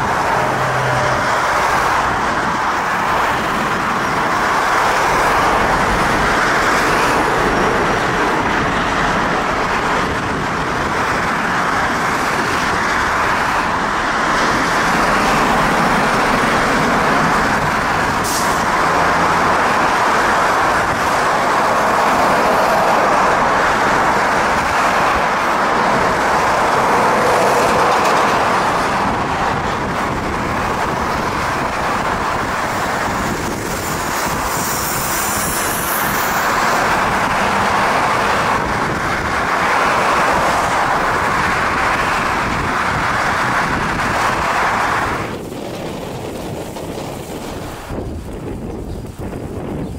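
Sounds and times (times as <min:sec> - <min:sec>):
jet engines roaring at takeoff: 0:00.0 - 0:49.9.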